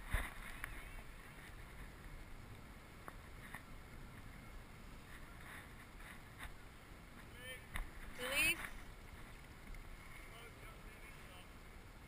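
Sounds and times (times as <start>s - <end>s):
low rumble of wind and water: 0.0s - 12.0s.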